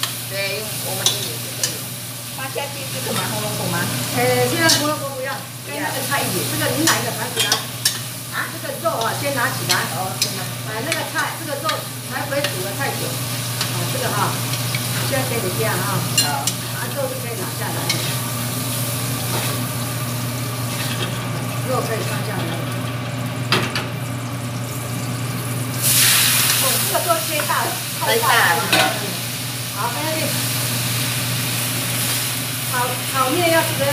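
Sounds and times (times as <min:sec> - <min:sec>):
food sizzling: 0:00.0 - 0:33.9.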